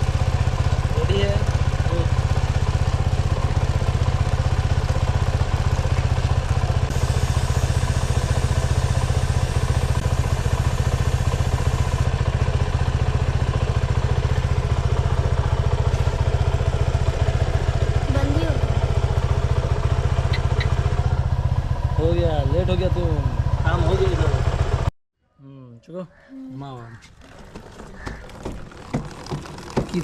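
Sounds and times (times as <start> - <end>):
motorcycle engine idling: 0.0 - 24.9, 26.9 - 30.0.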